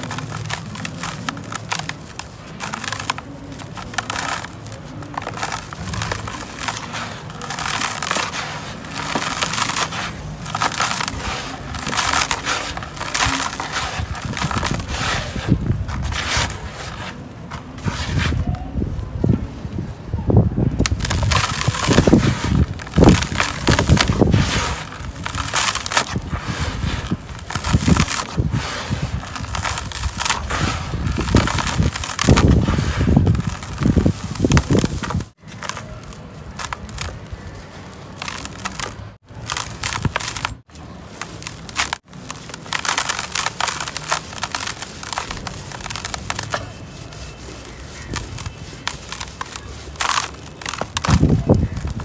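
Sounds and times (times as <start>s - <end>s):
hands crushing gritty dirt: 0.0s - 18.7s, 20.7s - 52.0s.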